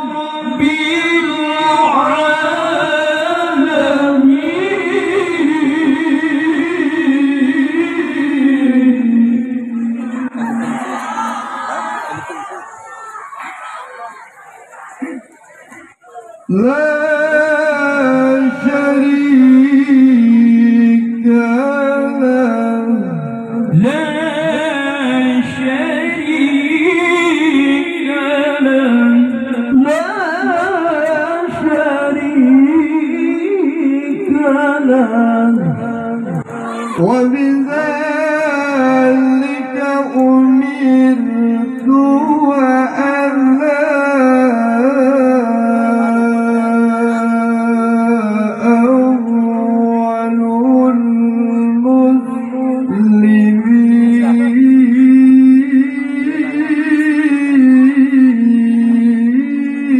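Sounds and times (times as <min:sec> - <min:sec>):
man reciting melodically: 0:00.0 - 0:11.3, 0:16.0 - 0:59.9.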